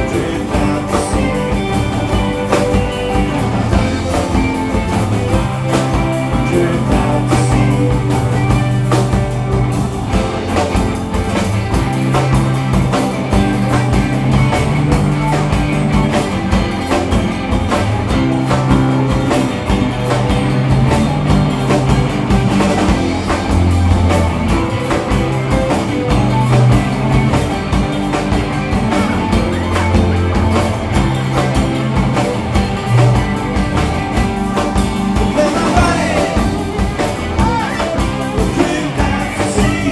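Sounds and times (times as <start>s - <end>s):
bass guitar: 0.0s - 39.9s
drum kit steady beat: 0.0s - 39.9s
electric guitars: 0.0s - 39.9s.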